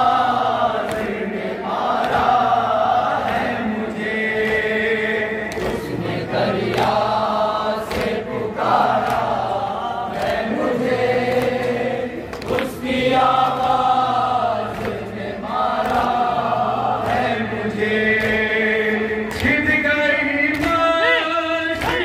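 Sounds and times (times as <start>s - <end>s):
men chanting a lament through microphones: 0.0s - 22.0s.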